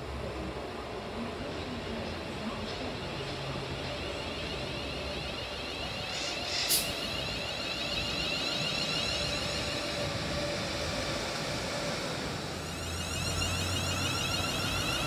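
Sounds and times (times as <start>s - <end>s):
train wheels rumbling: 1.2s - 15.0s
faint high whining tones: 1.8s - 15.0s.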